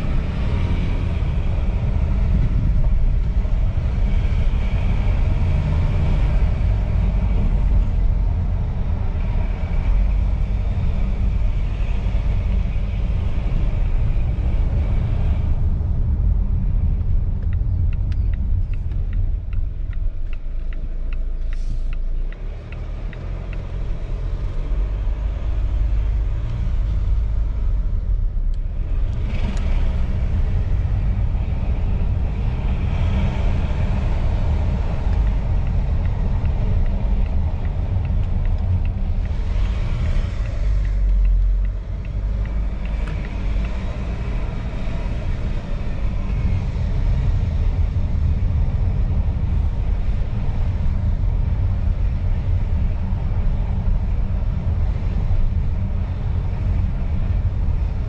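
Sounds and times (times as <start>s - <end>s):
diesel engine rumble: 0.0s - 58.0s
tyres on the road: 0.0s - 58.0s.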